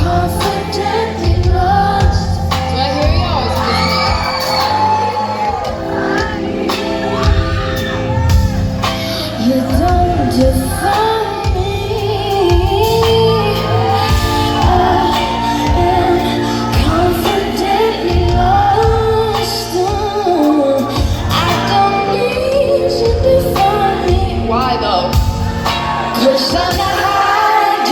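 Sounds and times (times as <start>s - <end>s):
band playing: 0.0s - 27.9s
woman singing: 0.0s - 27.9s.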